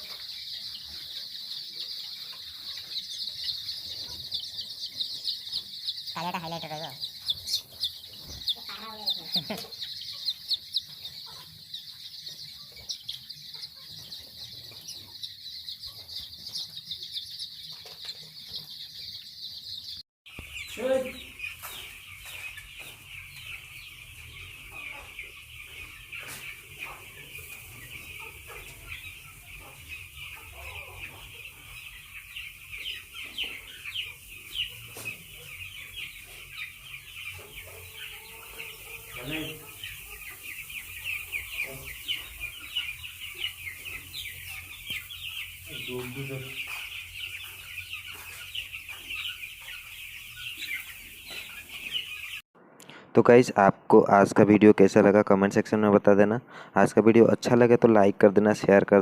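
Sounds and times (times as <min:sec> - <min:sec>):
chickens clucking: 0:00.0 - 0:59.0
chicks peeping: 0:00.0 - 0:59.0.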